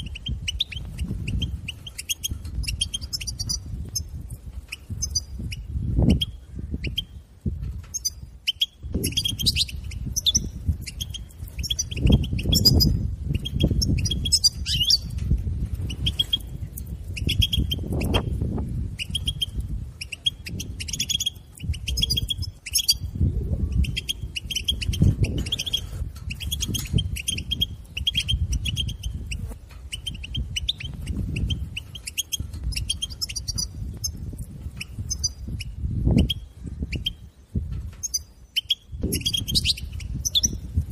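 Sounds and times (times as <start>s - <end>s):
goldfinch twittering chirps: 0.0s - 4.1s, 4.7s - 7.2s, 7.9s - 15.2s, 15.8s - 18.3s, 19.0s - 37.2s, 38.0s - 40.7s.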